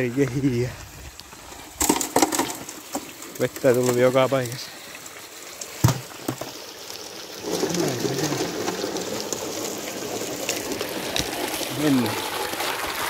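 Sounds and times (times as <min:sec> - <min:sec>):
water rushing over gravel: 0:00.0 - 0:13.0.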